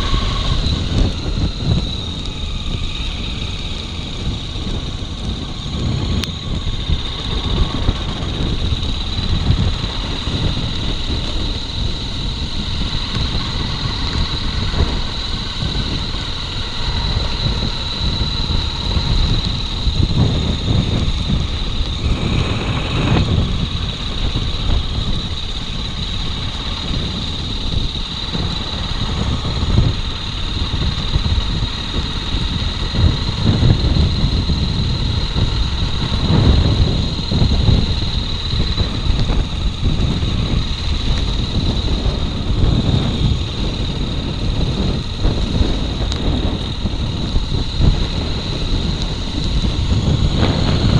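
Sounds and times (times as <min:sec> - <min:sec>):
motorcycle engine running: 0:00.0 - 0:50.9
steady high-pitched tone: 0:00.0 - 0:50.9
wind rumble on microphone: 0:00.0 - 0:50.9.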